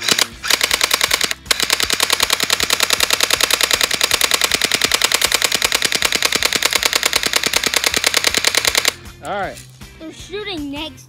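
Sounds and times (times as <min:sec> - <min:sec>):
airsoft gun firing full auto: 0:00.0 - 0:09.0.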